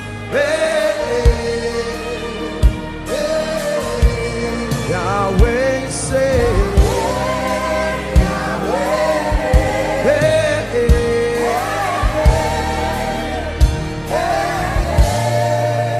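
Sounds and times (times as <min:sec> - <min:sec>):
band playing: 0:00.0 - 0:15.9.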